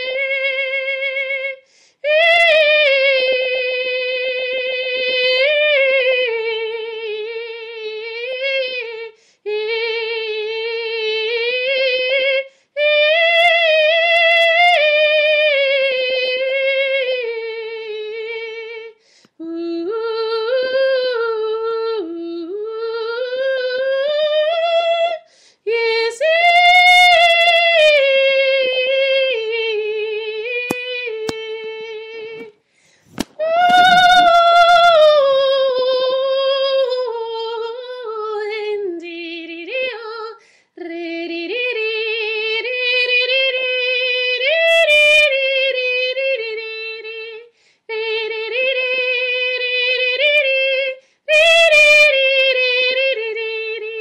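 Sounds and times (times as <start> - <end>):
woman singing wordless notes: 0.0 - 32.6, 33.2 - 54.0.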